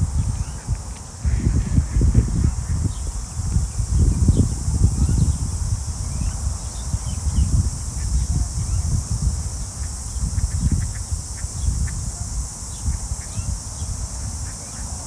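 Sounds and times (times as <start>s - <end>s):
cicadas chorus: 0.0s - 15.0s
wind rumbling on microphone: 0.0s - 15.0s.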